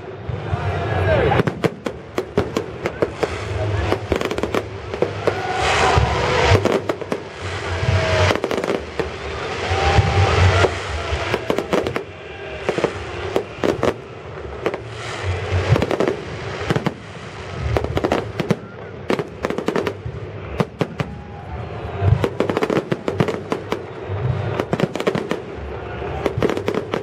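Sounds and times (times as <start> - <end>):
firework bangs: 0.0 - 27.0
fireworks crackling hiss: 0.0 - 27.0.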